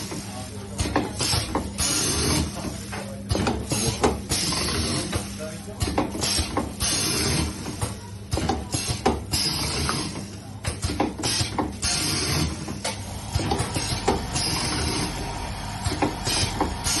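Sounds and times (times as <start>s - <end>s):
machine clacks and knocks: 0.8s - 15.1s.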